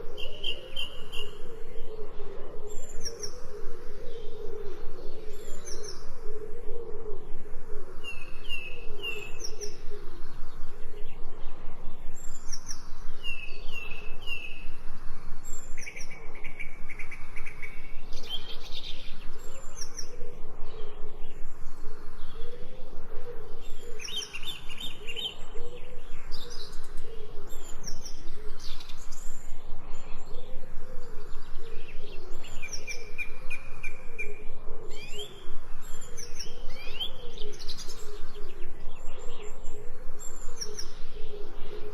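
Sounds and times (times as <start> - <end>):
birds chirping and trilling: 0.0 - 41.9.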